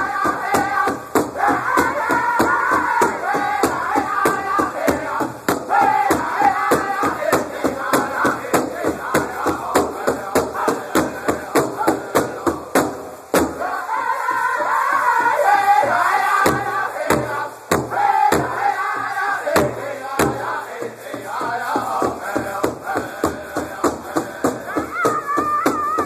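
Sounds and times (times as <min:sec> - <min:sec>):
large drum beating: 0:00.0 - 0:13.8, 0:15.2 - 0:26.0
group singing: 0:00.0 - 0:26.0.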